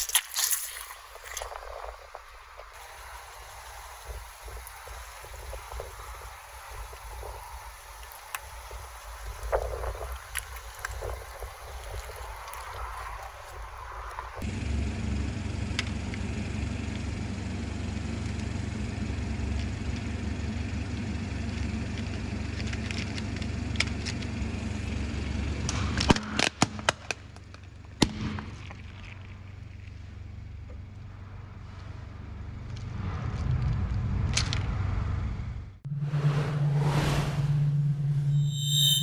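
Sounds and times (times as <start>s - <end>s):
car engine rumbling: 1.0s - 39.0s.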